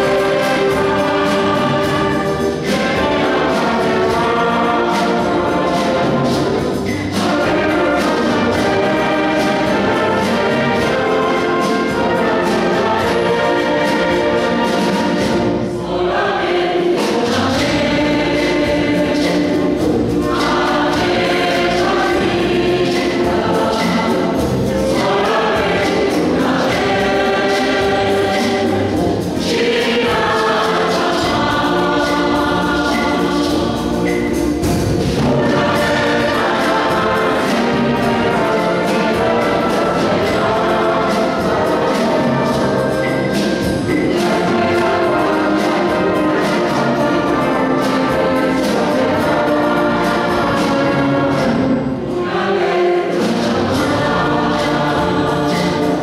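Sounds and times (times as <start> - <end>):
choir singing: 0.0 - 56.0
wind band playing: 0.0 - 56.0.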